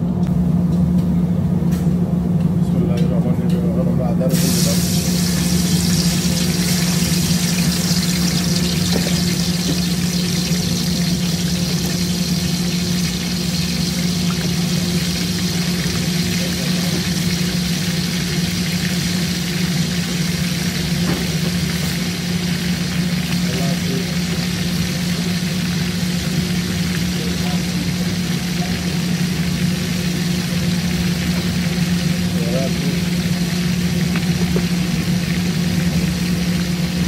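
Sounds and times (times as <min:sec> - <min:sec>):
low hum: 0:04.3 - 0:37.0
paste sizzling in hot oil: 0:04.3 - 0:37.0.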